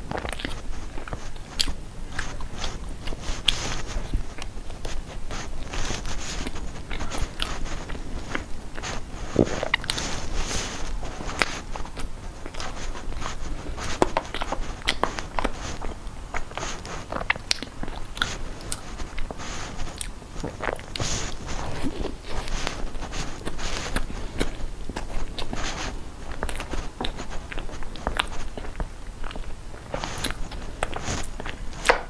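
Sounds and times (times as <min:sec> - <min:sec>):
person chewing crispy pastry: 0:00.0 - 0:32.0.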